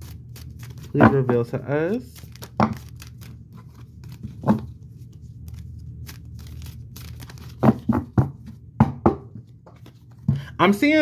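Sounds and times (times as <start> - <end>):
cards shuffling: 0.0 - 8.2, 9.4 - 10.3.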